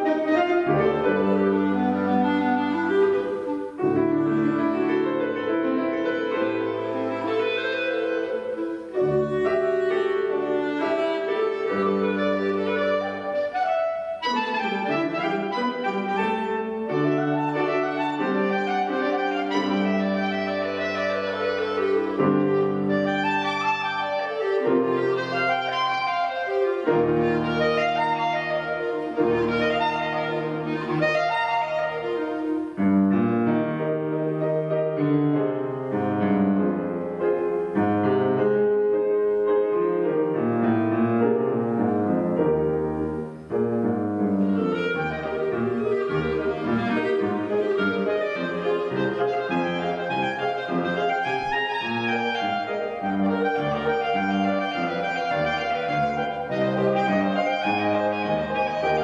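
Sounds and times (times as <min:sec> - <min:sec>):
clarinet: 0:00.0 - 0:59.0
piano: 0:00.0 - 0:59.0.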